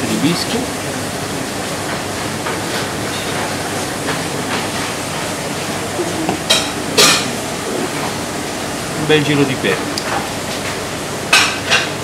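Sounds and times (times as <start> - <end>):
rushing kitchen background noise: 0.0 - 12.0.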